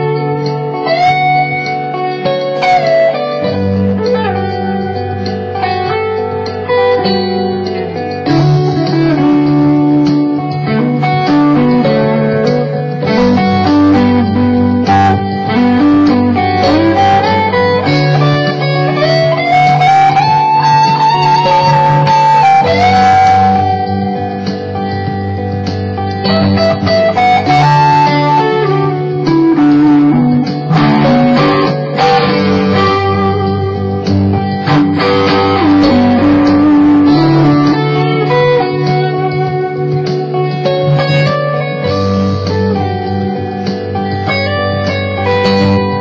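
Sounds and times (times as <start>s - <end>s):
electric guitar blues lead: 0.0s - 46.0s
low accompaniment: 0.0s - 46.0s.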